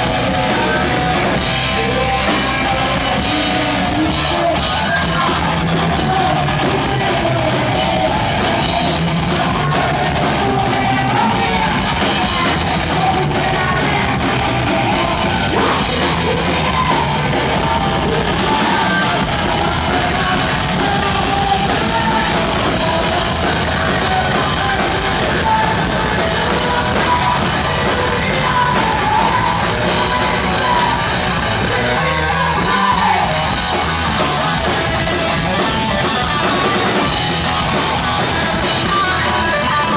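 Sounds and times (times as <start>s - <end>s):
singer yelling vocals: 0.0s - 36.8s
live heavy metal band: 0.0s - 39.9s.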